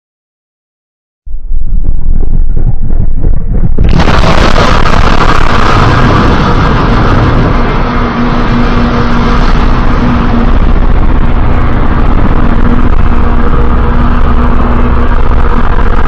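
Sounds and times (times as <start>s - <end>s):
steady low hum: 1.3s - 16.0s.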